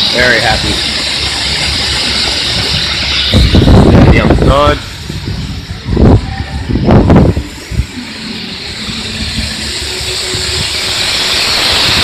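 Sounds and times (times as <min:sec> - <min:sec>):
hissing spray from nozzles: 0:00.0 - 0:12.0.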